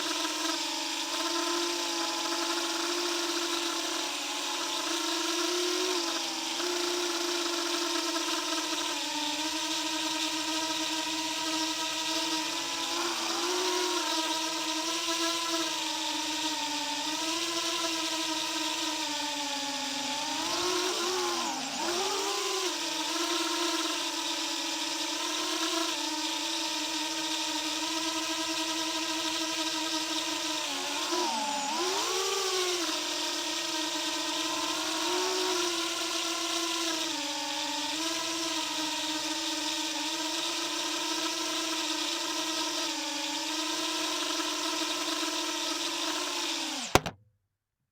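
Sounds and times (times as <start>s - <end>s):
quadcopter motors whining: 0.0s - 47.2s.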